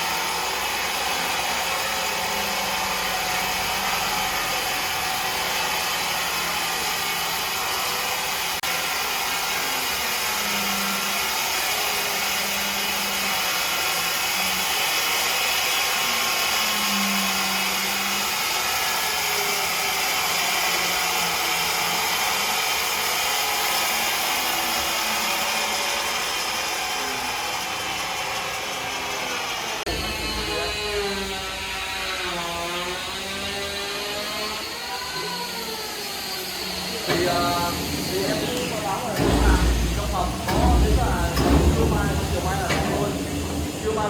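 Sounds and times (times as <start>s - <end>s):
woodworking machinery hissing: 0.0s - 44.0s.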